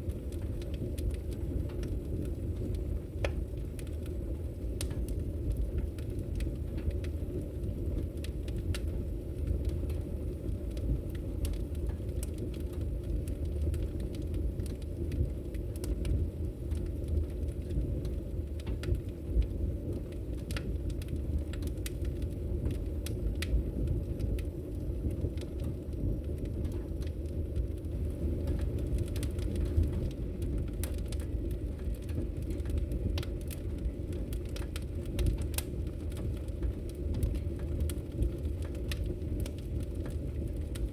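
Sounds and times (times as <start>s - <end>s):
logs crackling and popping in fireplace: 0.0s - 40.9s.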